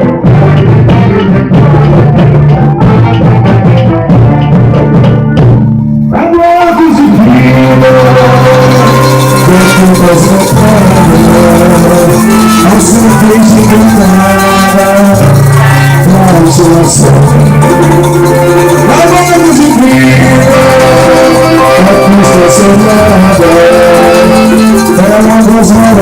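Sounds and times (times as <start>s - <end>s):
held bass notes: 0.0s - 26.0s.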